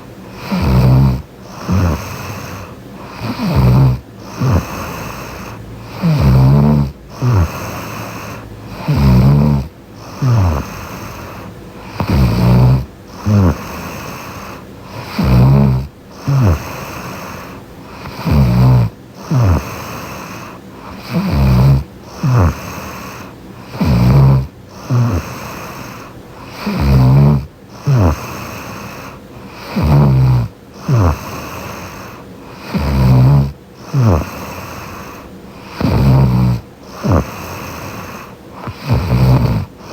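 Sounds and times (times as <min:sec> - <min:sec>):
quiet breathing: 0:00.0 - 0:39.9
woman snoring: 0:00.0 - 0:39.9.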